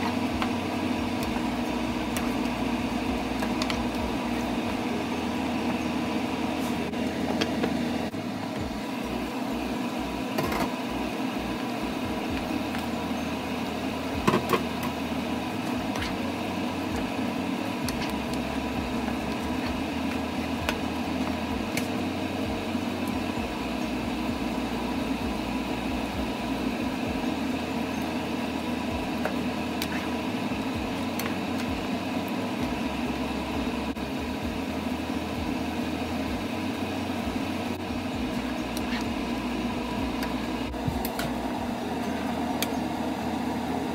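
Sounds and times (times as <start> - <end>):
fan humming: 0.0 - 43.9.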